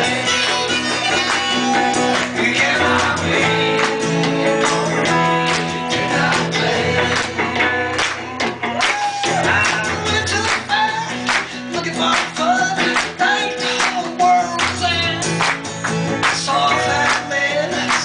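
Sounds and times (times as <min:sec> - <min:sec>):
acoustic guitar strumming: 0:00.0 - 0:18.0
electric guitar: 0:00.0 - 0:18.0
man singing: 0:00.0 - 0:18.0.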